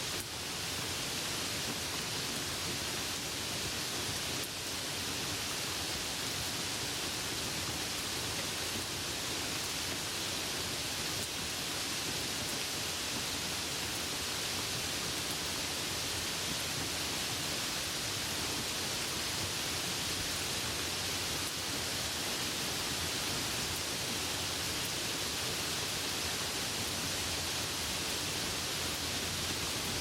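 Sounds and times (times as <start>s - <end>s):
light rain hiss: 0.0s - 30.0s.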